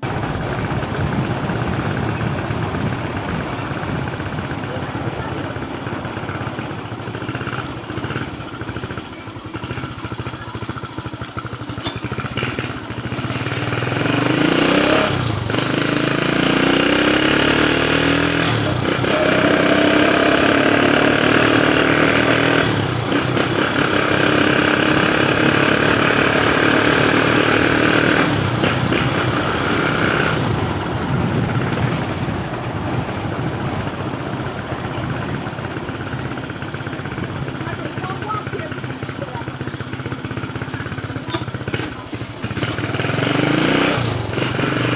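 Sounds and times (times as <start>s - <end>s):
street noise: 0.0s - 44.9s
vehicle engine accelerating: 0.0s - 44.9s.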